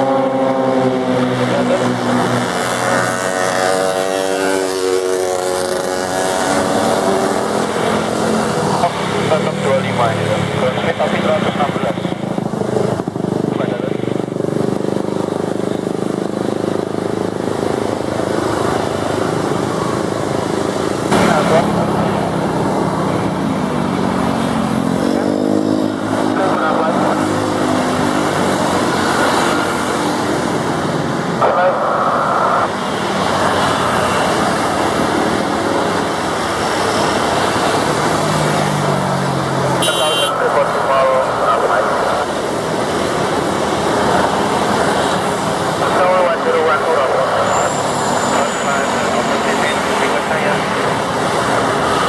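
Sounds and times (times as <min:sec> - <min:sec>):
low engine drone: 0:00.0 - 0:52.0
propeller aircraft passing: 0:00.0 - 0:52.0.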